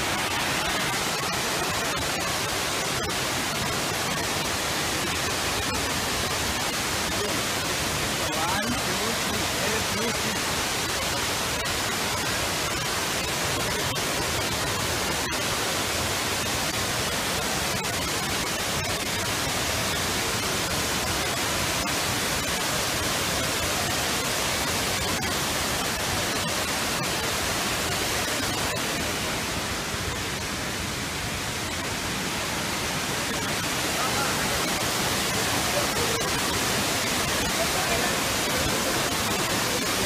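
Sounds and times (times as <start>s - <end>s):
large waterfall rushing: 0.0s - 40.0s.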